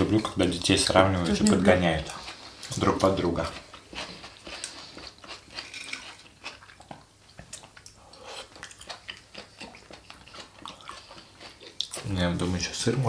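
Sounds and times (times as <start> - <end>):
chewing and wet mouth sounds: 0.0 - 12.7.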